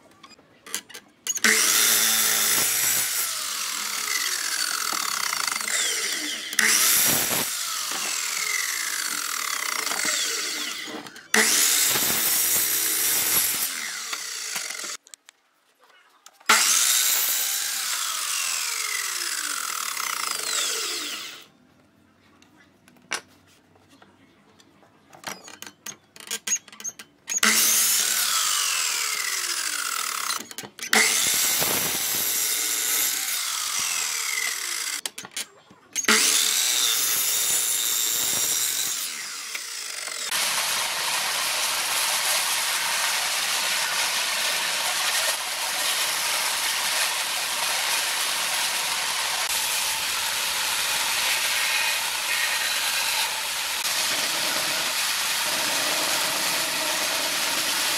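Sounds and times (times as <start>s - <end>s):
band saw cutting wood: 1.3s - 15.0s, 16.5s - 21.5s, 27.3s - 35.0s, 36.0s - 57.9s
miter saw cutting wood: 1.3s - 15.0s, 16.5s - 21.5s, 27.3s - 35.0s, 36.0s - 57.9s.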